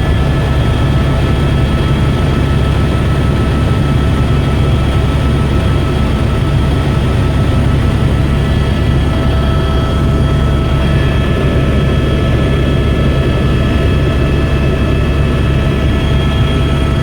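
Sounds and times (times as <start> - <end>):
helicopter drone: 0.0 - 17.0.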